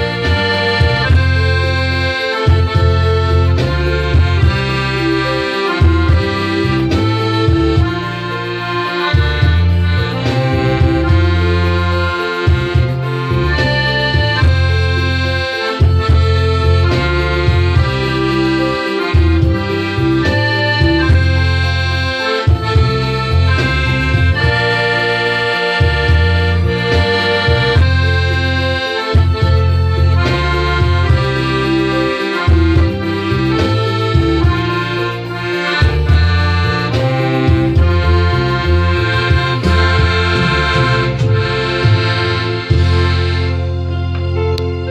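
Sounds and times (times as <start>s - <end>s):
low bass notes pulsing: 0.0s - 44.9s
piano accordion playing a tune: 0.0s - 44.9s.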